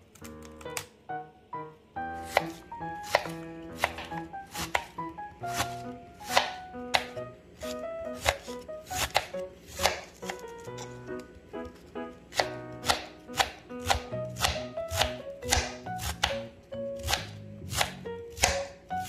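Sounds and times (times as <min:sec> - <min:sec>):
background music: 0:00.0 - 0:19.0
knife slicing cabbage on board: 0:02.2 - 0:19.0.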